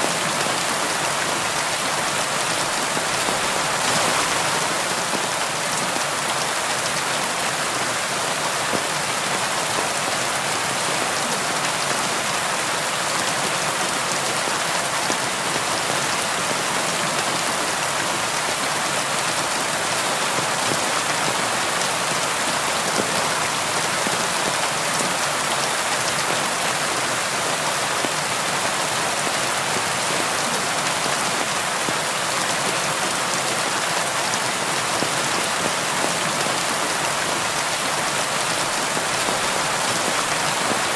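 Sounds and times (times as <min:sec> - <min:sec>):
rain pattering: 0:00.1 - 0:40.9.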